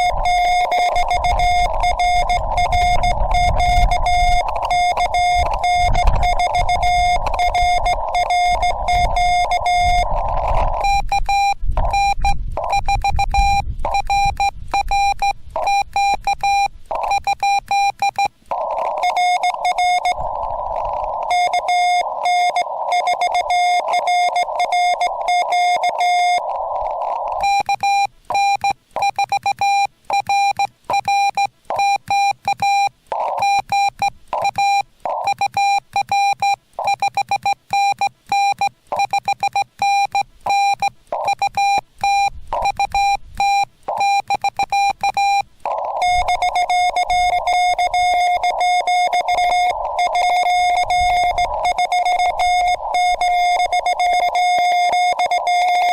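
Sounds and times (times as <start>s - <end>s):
lower-pitched morse code signal: 0.0s - 55.9s
morse code sidetone beeping: 0.0s - 55.9s
receiver hiss: 0.0s - 55.9s.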